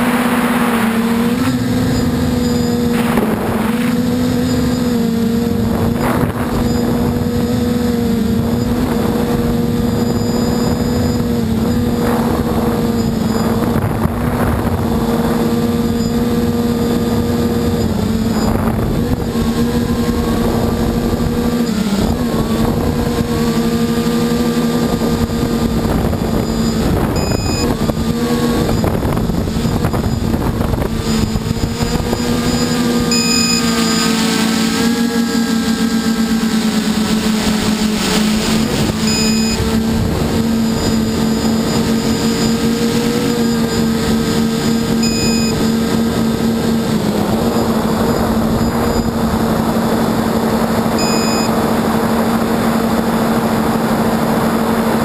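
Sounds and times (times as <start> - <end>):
drone motors and propellers humming: 0.0 - 55.0.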